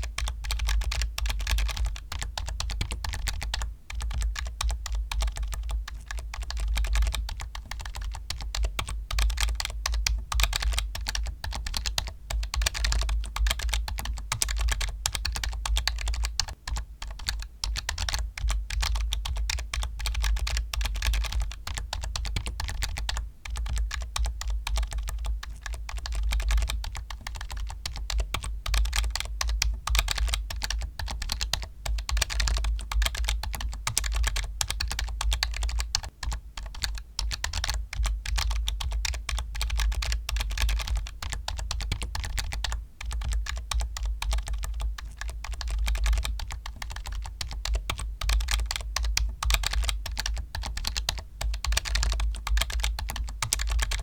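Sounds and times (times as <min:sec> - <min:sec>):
fast typing on keyboard: 0:00.0 - 0:54.0.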